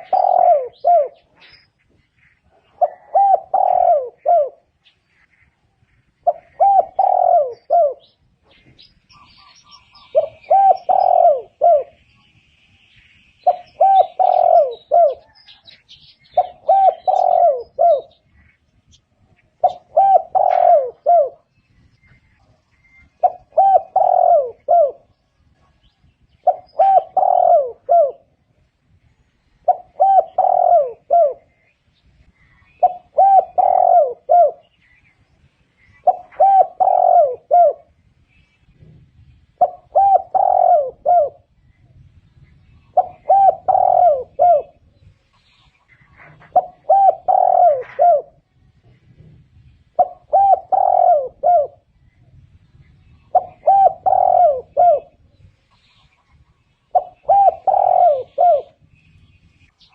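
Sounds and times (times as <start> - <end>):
dove cooing: 0.0 - 12.1, 13.4 - 35.2, 35.8 - 59.9.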